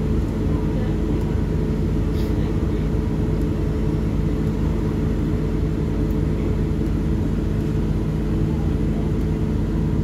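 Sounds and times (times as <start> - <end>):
bus engine humming: 0.0 - 10.0.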